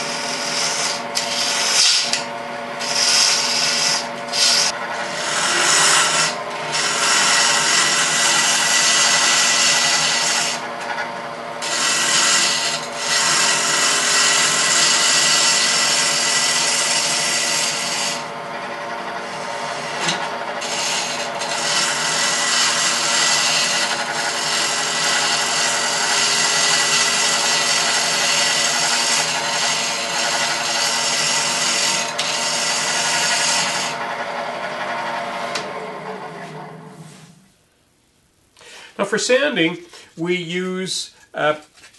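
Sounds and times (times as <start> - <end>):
wood lathe motor hum: 0.0 - 37.5.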